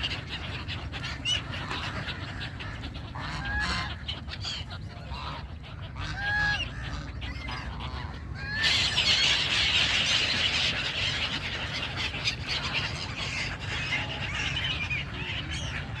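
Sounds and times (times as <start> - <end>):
waterbirds calling: 0.0 - 16.0.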